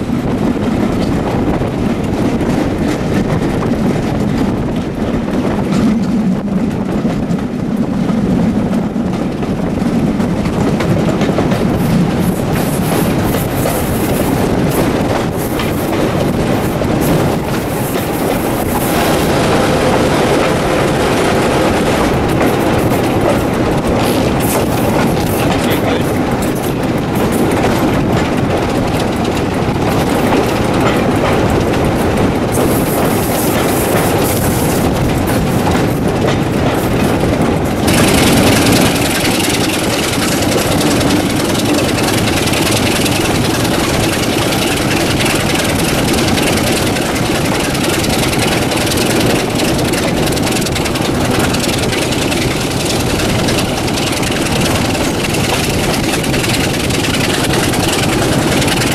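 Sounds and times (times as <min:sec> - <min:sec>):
diesel locomotive engine working hard: 0:00.0 - 0:58.9
train wheels running on rails: 0:00.0 - 0:58.9.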